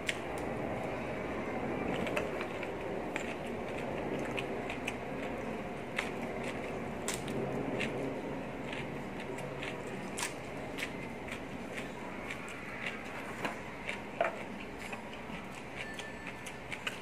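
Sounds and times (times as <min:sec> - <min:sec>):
chewing raw leafy greens: 0:00.0 - 0:17.0
steady background noise: 0:00.0 - 0:17.0.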